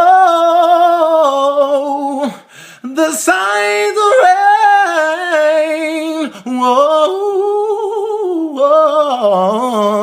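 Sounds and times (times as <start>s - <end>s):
man singing a cappella: 0.0s - 10.0s.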